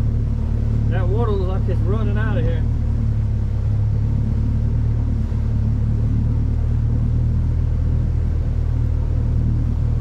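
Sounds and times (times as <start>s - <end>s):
motor droning steadily: 0.0s - 10.0s.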